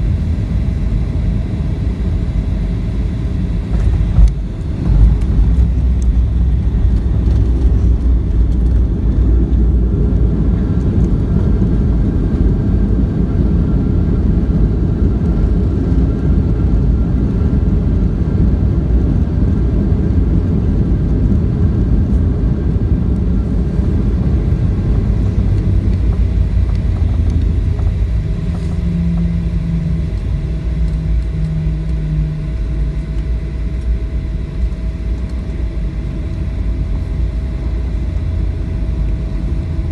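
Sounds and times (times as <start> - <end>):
airplane cabin rumble: 0.0 - 39.9
steady low hum: 0.0 - 39.9.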